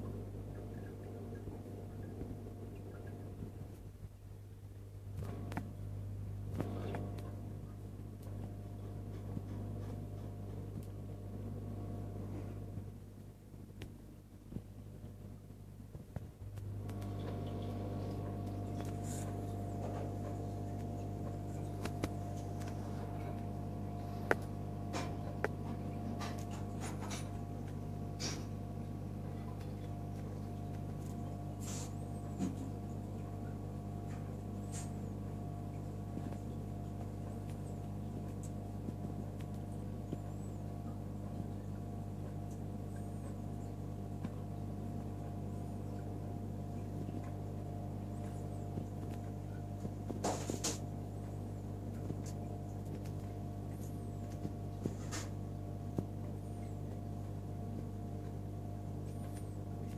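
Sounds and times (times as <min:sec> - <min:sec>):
aquarium pump hum: 0:00.0 - 0:59.9.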